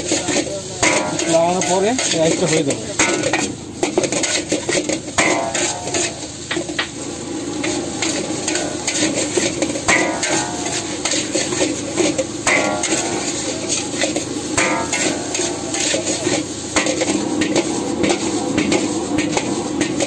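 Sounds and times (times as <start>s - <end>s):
metal spatula scraping a wok: 0.0s - 20.0s.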